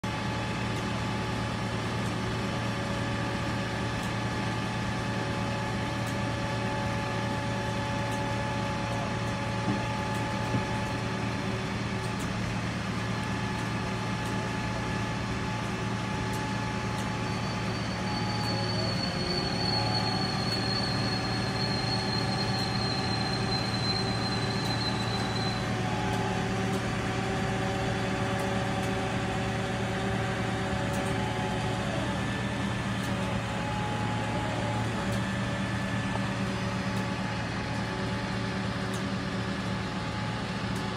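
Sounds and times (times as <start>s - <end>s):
fire engine running steadily: 0.0s - 40.9s.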